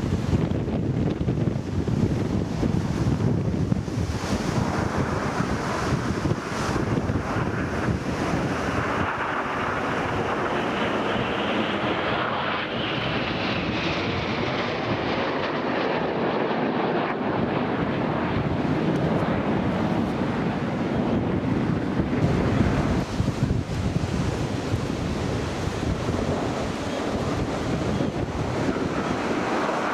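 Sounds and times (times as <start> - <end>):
jets flying past: 0.0 - 29.9
wind buffeting on microphone: 0.0 - 29.9.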